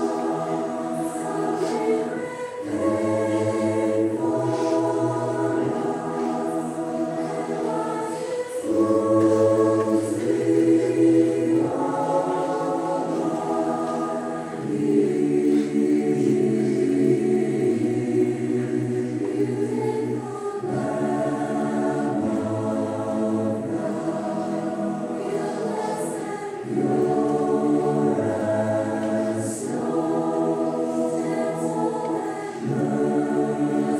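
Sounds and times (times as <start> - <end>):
choir singing sustained chords: 0.0 - 33.9.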